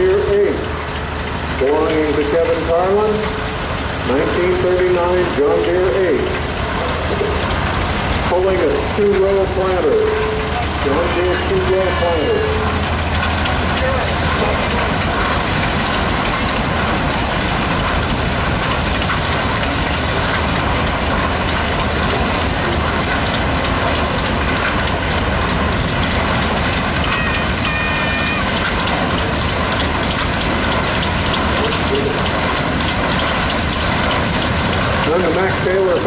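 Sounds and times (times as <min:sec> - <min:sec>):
low engine drone: 0:00.0 - 0:36.0.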